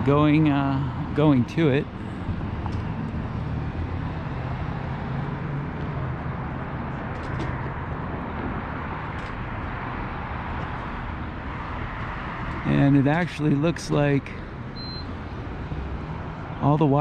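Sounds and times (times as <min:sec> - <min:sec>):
cars passing on street: 0:00.0 - 0:17.0.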